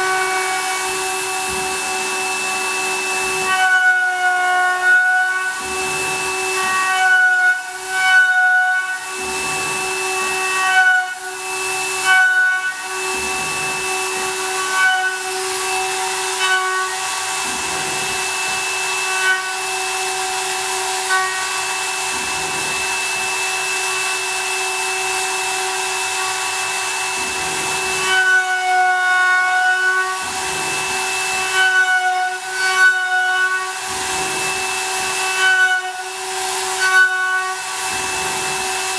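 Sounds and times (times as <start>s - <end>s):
milling machine cutting metal: 0.0s - 38.9s.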